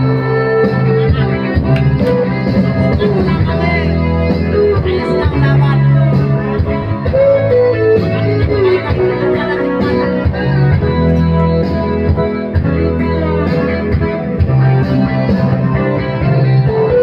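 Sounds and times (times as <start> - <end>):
bass line: 0.0 - 17.0
karaoke backing track with guitar: 0.0 - 17.0.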